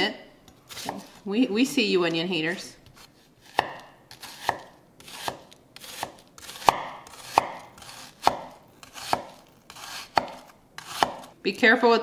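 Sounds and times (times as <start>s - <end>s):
knife slicing onion on board: 0.6s - 1.3s, 2.1s - 11.4s.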